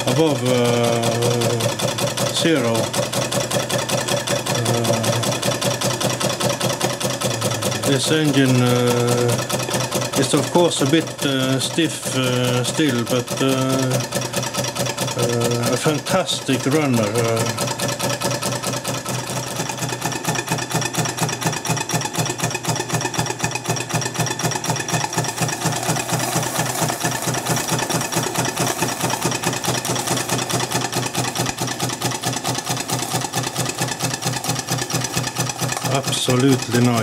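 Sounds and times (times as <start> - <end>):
steam engine ticking: 0.0 - 37.0.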